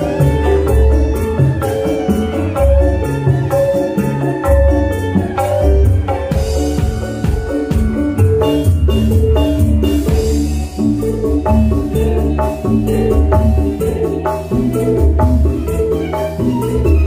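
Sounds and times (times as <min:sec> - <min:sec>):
band playing through loudspeakers: 0:00.0 - 0:17.0
hand drums fast beat: 0:00.0 - 0:17.0
heavy bass line: 0:00.0 - 0:17.0.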